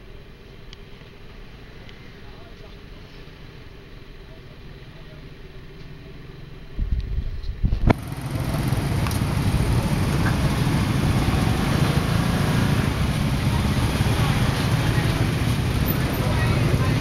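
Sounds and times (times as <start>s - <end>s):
motorcycle engines at low speed: 0.8s - 17.0s.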